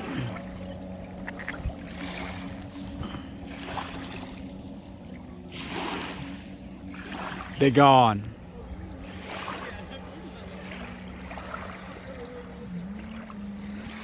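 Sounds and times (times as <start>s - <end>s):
jet ski engine droning: 0.0s - 14.0s.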